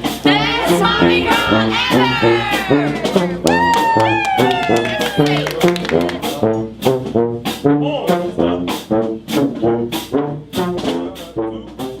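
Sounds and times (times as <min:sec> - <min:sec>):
brass band playing: 0:00.0 - 0:12.0
steady drum beat: 0:00.0 - 0:12.0.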